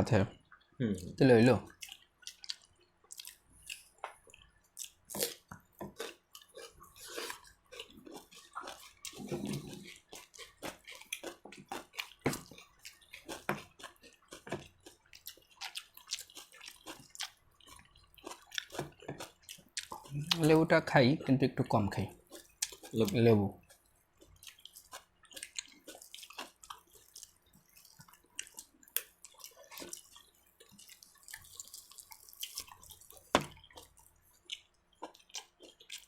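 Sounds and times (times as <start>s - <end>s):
wet chewing: 0.5s - 21.2s, 21.9s - 36.0s.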